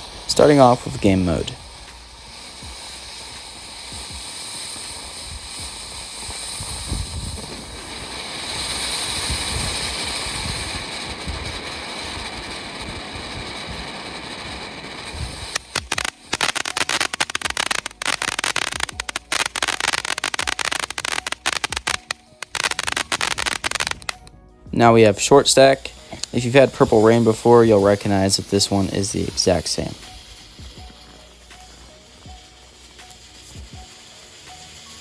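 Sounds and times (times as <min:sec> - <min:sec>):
fountain firework hissing and crackling: 0:00.0 - 0:35.0.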